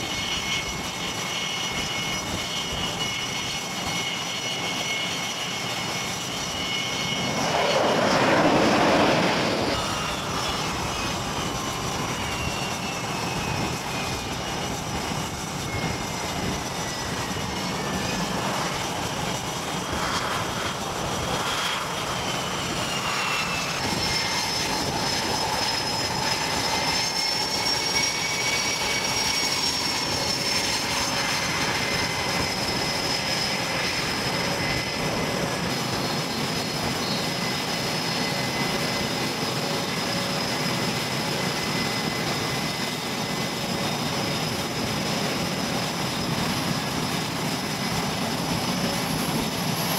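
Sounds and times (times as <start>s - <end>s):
aircraft engines whining: 0.0s - 49.9s.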